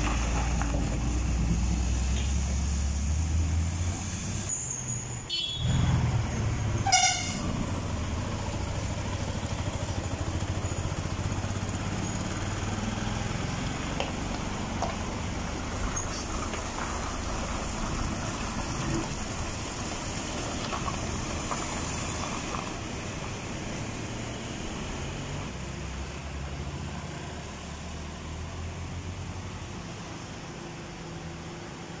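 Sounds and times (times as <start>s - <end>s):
another lorry engine: 0.0s - 32.0s
diesel truck engine passing: 0.0s - 32.0s
road noise: 0.0s - 32.0s.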